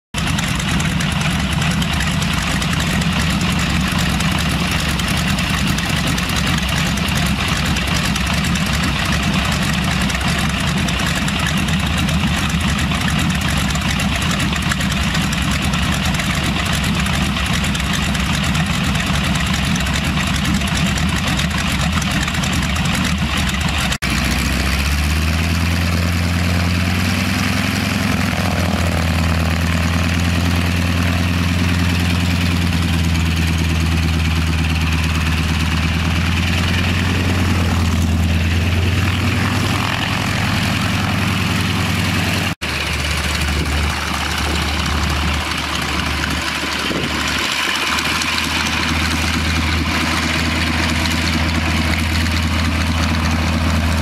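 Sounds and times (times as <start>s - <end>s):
biplane radial engine idling: 0.2s - 54.0s.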